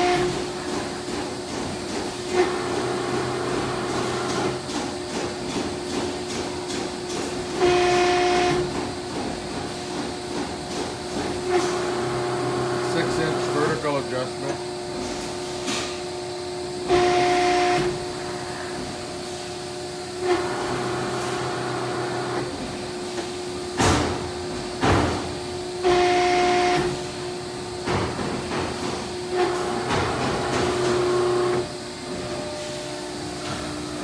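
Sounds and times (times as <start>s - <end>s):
hydraulic hissing and whine: 0.0s - 34.0s
hydraulic press hum: 0.0s - 34.0s.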